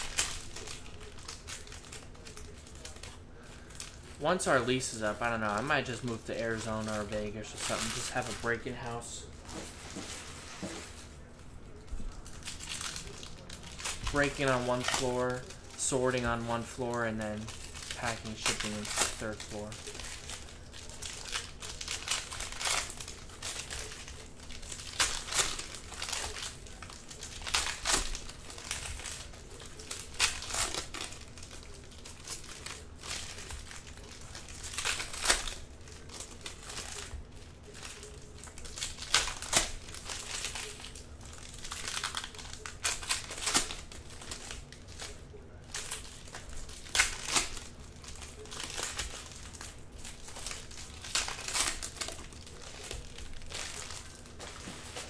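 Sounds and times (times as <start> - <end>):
foil wrappers crinkling: 0.0 - 55.0.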